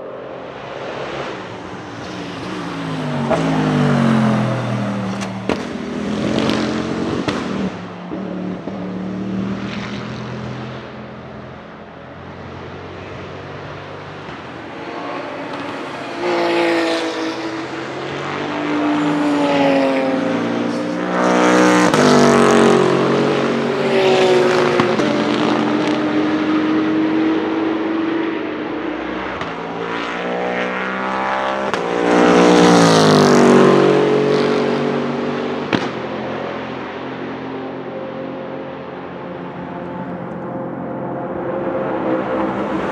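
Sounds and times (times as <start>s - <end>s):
race car engines accelerating past: 0.0s - 42.9s.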